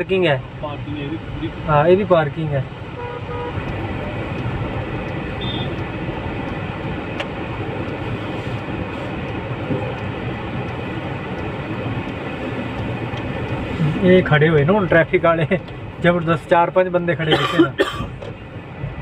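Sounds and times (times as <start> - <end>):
car engine and traffic noise: 0.0 - 19.0.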